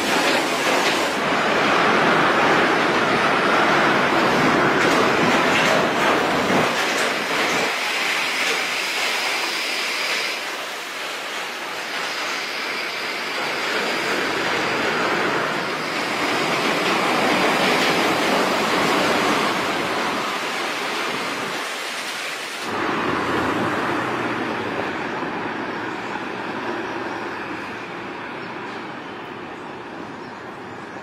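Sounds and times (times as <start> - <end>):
monorail car rumbling: 0.0 - 31.0.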